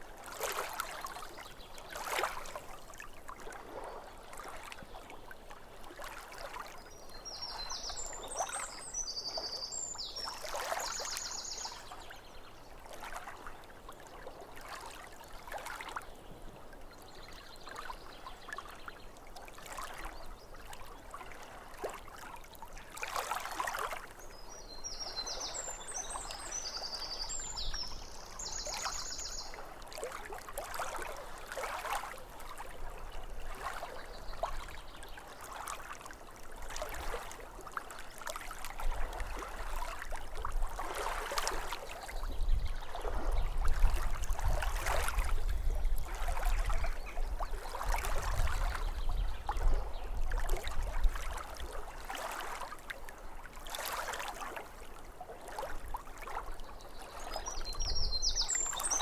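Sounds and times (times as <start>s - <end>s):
small waves lapping on shore: 0.0s - 59.0s.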